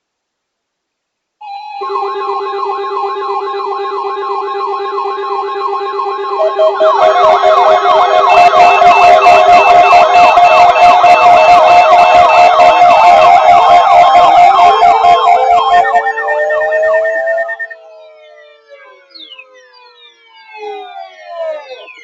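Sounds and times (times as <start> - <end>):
electronic warning sirens yelping: 1.4 - 22.0.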